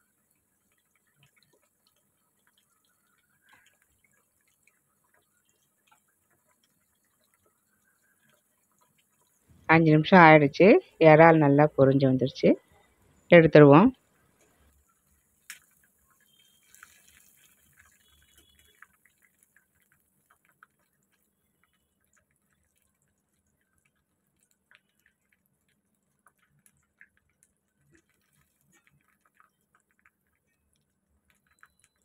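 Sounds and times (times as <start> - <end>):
hot oil popping and crackling: 0.0 - 9.6, 14.1 - 32.0.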